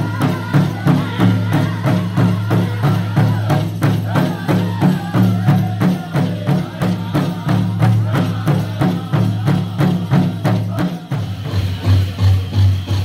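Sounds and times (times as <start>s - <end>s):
group singing: 0.0s - 13.0s
steady drumbeat: 0.0s - 13.0s.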